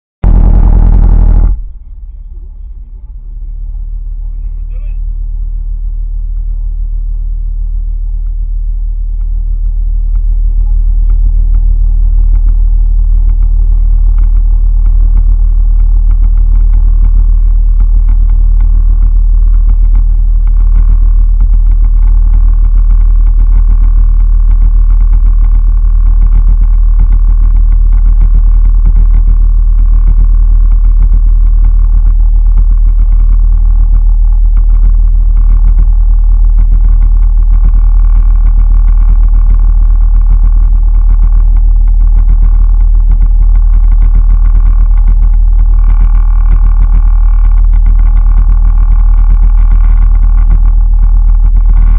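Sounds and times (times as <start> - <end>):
boat motor rumbling: 0.2 - 51.9.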